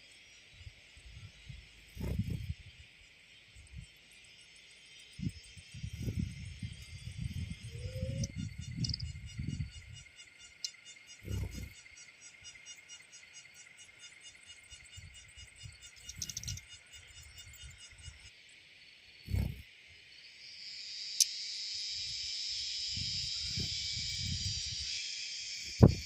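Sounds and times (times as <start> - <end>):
insects calling: 0.0 - 26.0.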